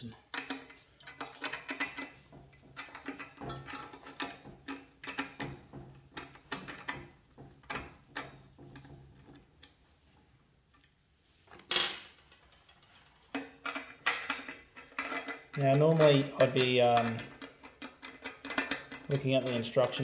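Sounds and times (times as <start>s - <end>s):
metallic clatter: 0.3s - 9.8s, 11.6s - 20.0s.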